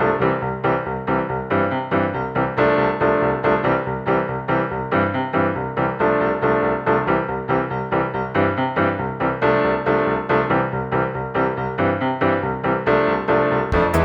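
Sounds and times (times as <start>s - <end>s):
bouncy piano-like keyboard music: 0.0s - 14.0s.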